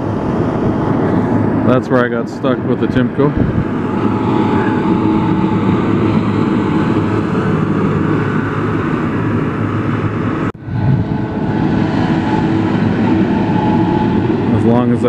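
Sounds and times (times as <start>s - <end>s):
diesel engine and hydraulics running: 0.0s - 15.0s.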